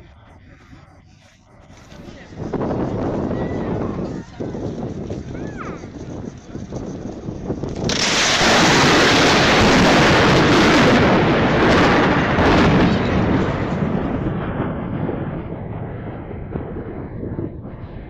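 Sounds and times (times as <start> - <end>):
thunder rolling crash: 2.5 - 18.0.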